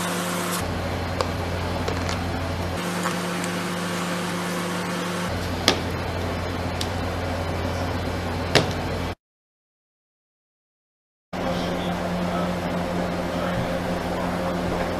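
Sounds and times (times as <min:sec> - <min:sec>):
machine hum: 0:00.0 - 0:09.2, 0:11.4 - 0:14.9.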